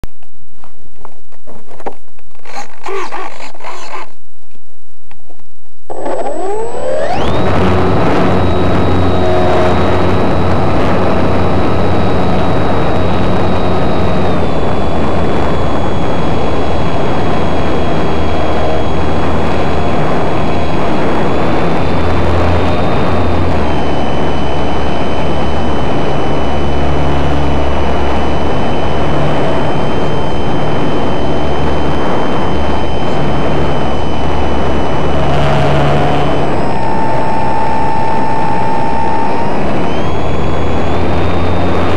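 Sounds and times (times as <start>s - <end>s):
model plane motor whining: 2.4s - 4.1s, 5.9s - 41.9s.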